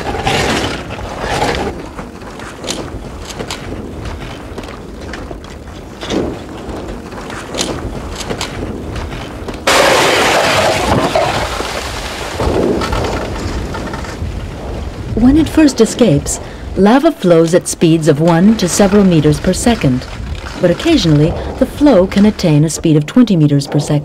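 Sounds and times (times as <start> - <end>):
cracking and clinking crust: 0.0 - 15.1, 18.3 - 24.0
low rumble of lava: 0.0 - 24.0.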